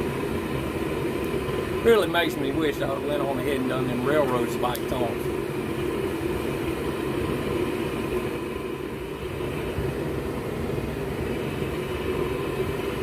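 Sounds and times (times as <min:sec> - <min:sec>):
propane forge burners rushing: 0:00.0 - 0:13.0.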